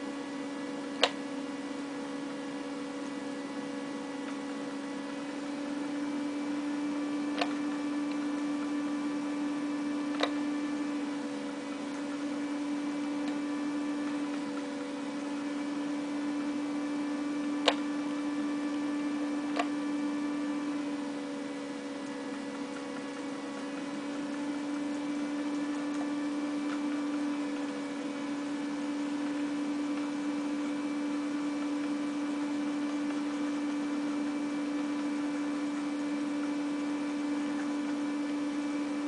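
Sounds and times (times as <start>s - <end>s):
electrical hum: 0.0s - 39.0s.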